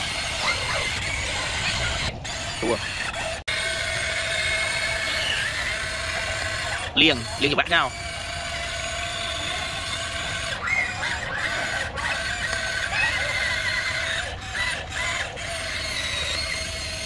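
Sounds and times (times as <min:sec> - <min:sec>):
toy excavator motors whirring: 0:00.0 - 0:17.0.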